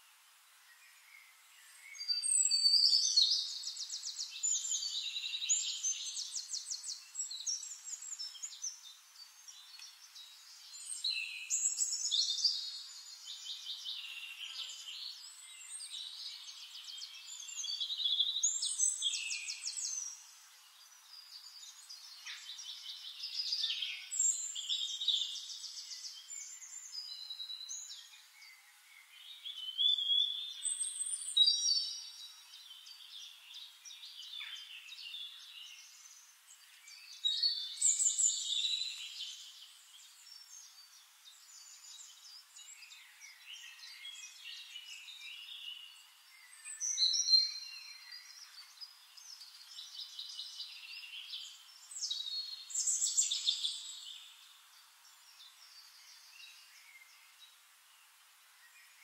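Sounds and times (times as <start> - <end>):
songbird trilling and chirping: 0.9 - 57.6.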